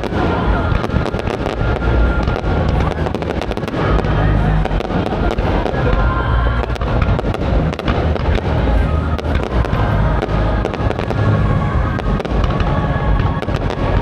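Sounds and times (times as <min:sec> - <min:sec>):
low rumble of firework bursts: 0:00.0 - 0:14.0
sharp firework crackles: 0:00.0 - 0:14.0.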